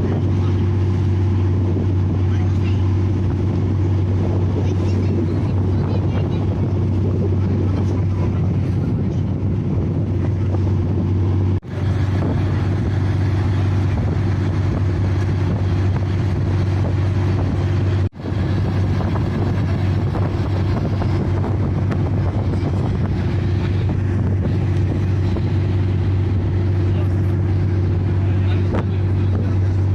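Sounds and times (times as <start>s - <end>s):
boat engine droning: 0.0s - 29.9s.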